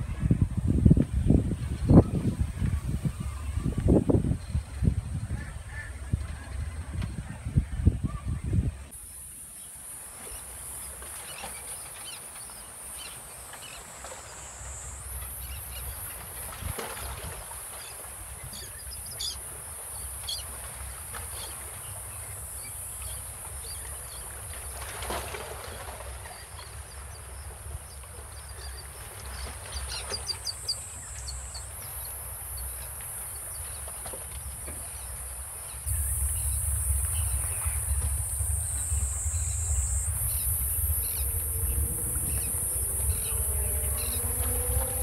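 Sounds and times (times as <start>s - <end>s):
wind buffeting microphone: 0.0s - 8.9s, 15.3s - 45.0s
steady high hiss: 8.9s - 45.0s.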